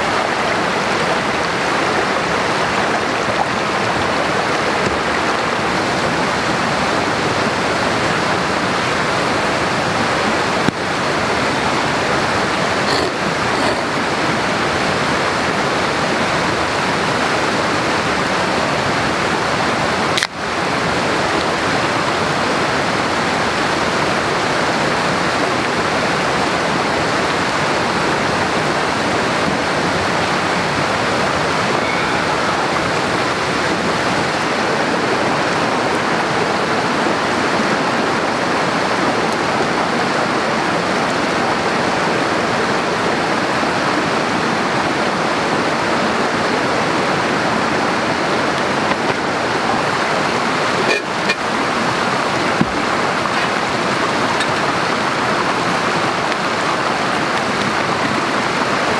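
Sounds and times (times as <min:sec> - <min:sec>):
rushing water: 0:00.0 - 0:58.9.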